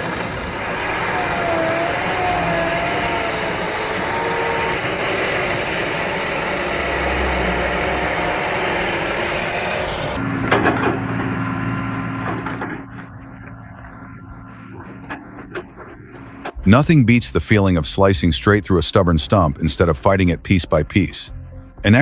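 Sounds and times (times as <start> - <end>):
diesel engine running under load: 0.0 - 17.9.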